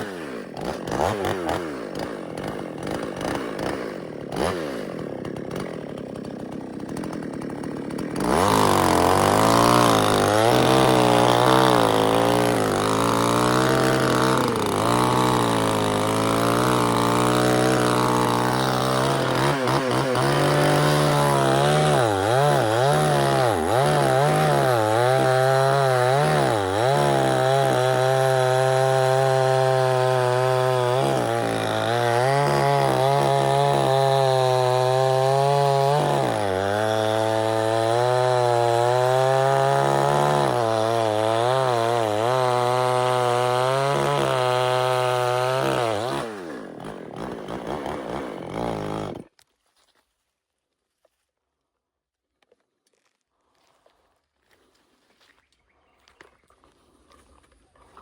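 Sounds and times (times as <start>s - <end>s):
chainsaw cutting wood: 0.0s - 49.4s.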